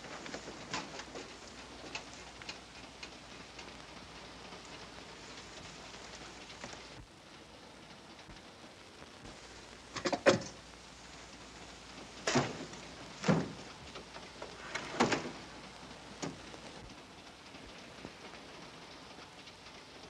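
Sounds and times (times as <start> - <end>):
moving train hiss: 0.0 - 20.0.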